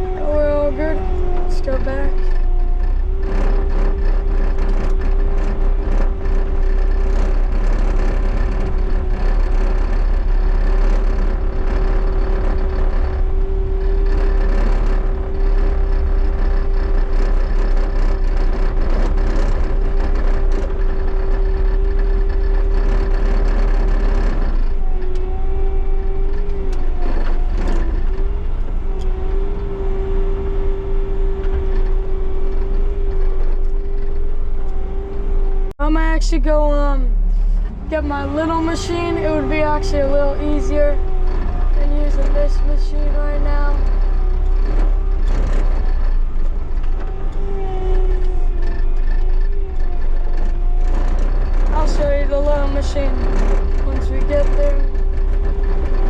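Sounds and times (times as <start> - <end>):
continuous machine whine: 0.0 - 56.0
track loader diesel rumble: 0.0 - 56.0.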